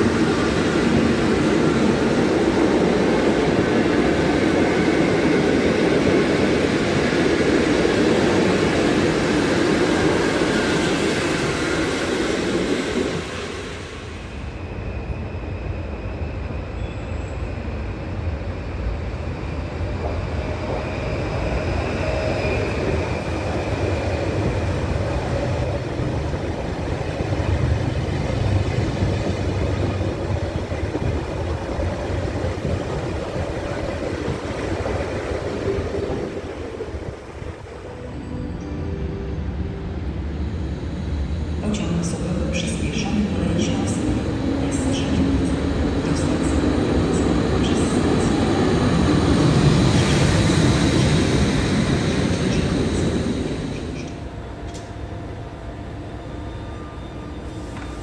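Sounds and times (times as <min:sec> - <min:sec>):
train wheels rumbling on rails: 0:00.0 - 0:38.0, 0:40.2 - 0:56.3
electric train low rumble: 0:00.0 - 0:58.0.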